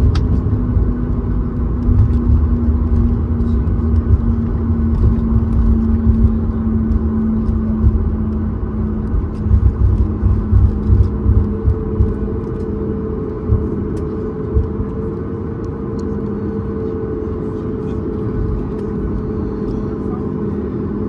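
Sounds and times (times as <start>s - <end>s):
aircraft cabin rumble: 0.0s - 21.0s
steady hum: 0.0s - 21.0s.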